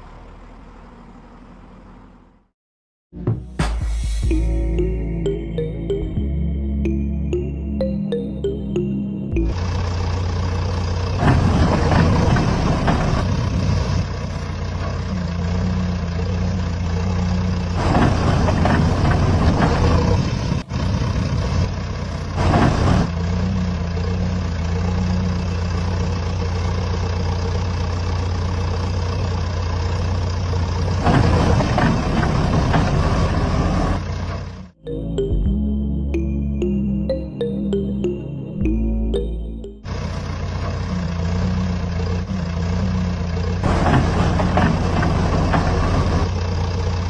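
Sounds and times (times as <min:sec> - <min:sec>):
heavy engine idling and revving: 0:00.0 - 0:02.5, 0:03.6 - 0:47.0.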